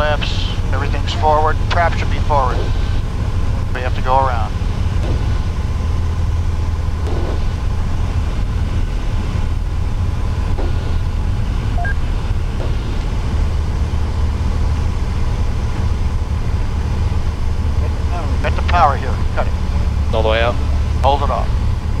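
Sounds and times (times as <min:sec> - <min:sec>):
airplane engine and propeller droning: 0:00.0 - 0:22.0.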